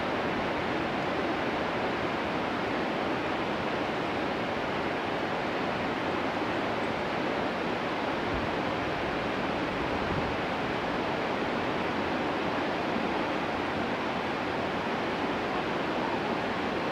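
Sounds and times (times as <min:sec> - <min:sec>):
rocky mountain river rushing: 0:00.0 - 0:16.9.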